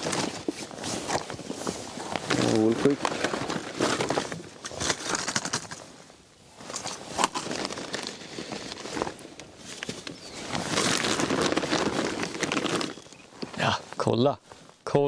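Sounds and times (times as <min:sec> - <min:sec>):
plastic packaging rustling: 0:00.0 - 0:05.8, 0:06.6 - 0:14.1.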